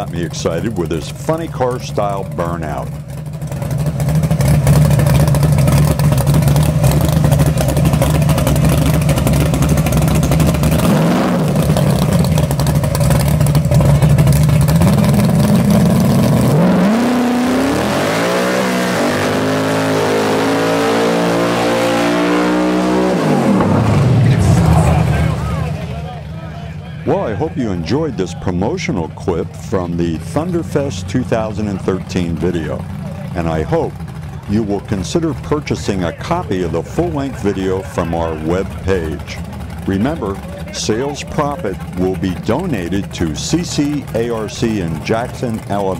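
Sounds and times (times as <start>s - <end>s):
drag car engine at high revs: 0.0s - 45.9s.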